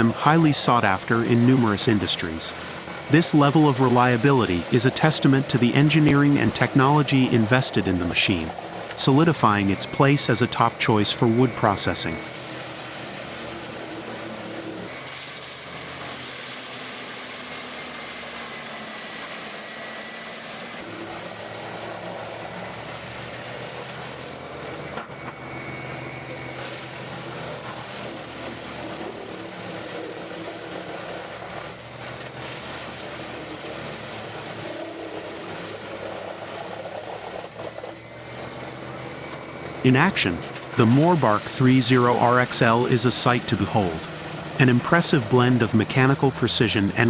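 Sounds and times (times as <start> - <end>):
wood chipper chipping logs: 0.0 - 47.0.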